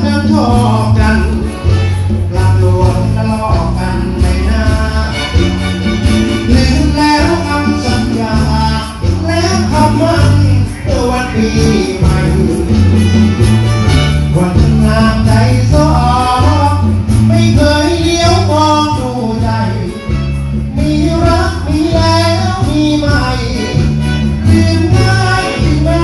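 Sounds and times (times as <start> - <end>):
man singing through a pa: 0.0 - 13.1, 14.2 - 26.0
live band in rumba rhythm: 0.0 - 26.0.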